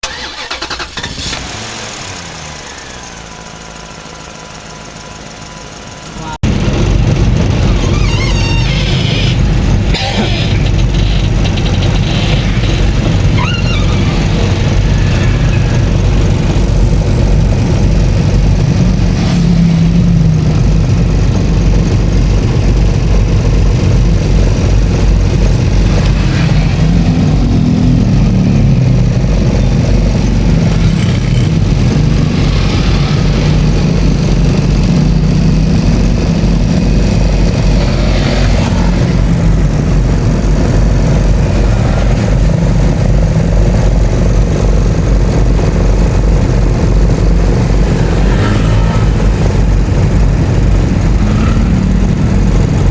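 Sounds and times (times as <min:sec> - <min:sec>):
road and wind rumble: 0:00.0 - 0:52.9
vehicle engine running: 0:00.0 - 0:52.9.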